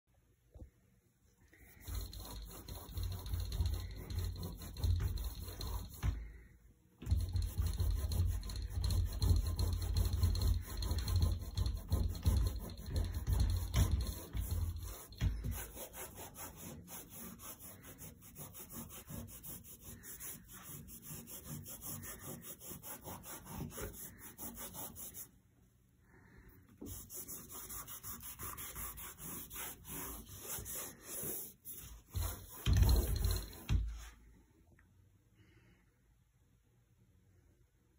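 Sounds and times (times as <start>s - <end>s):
cloth wiping a door frame: 1.6s - 6.4s, 7.0s - 25.4s, 26.8s - 34.3s.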